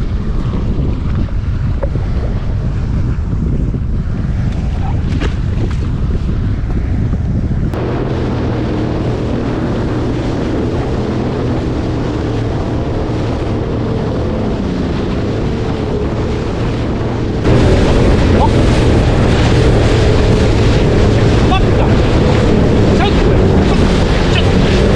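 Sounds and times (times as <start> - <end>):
jet ski engine running: 0.0 - 24.9
water noise: 0.0 - 24.9
wind buffeting microphone: 0.0 - 24.9.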